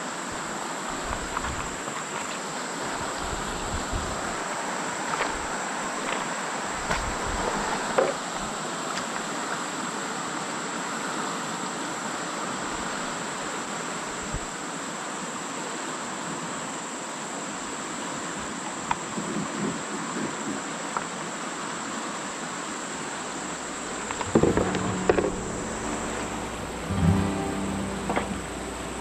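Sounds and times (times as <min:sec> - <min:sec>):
background hiss: 0:00.0 - 0:29.0.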